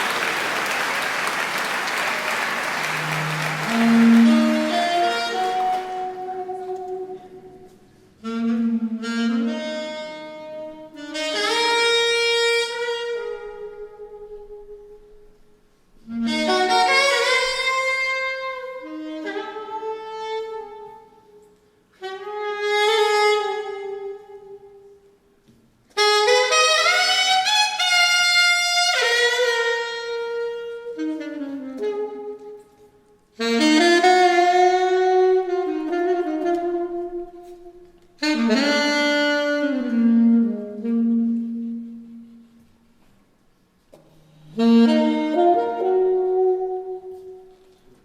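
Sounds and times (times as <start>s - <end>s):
alto saxophone playing: 0.0s - 43.2s, 44.1s - 48.0s.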